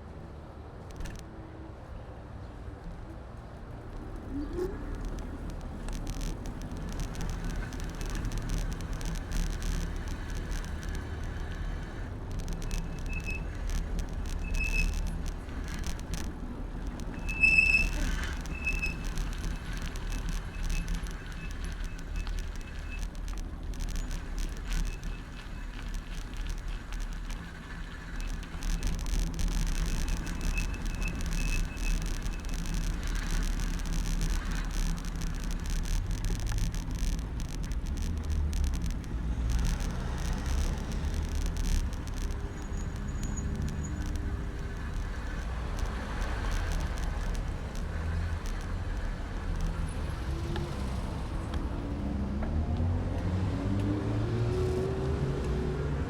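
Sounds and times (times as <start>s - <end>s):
tyre and wind rumble: 3.5s - 56.0s
bicycle rattling clicks: 3.9s - 50.9s
short high squeaks: 4.3s - 49.8s.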